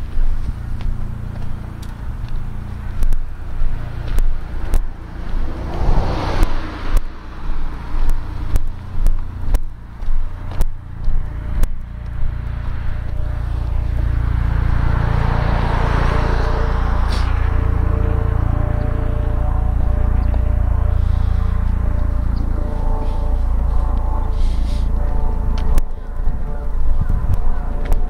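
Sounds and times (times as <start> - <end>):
car passing: 0.0 - 28.0
low rumble: 0.0 - 28.0.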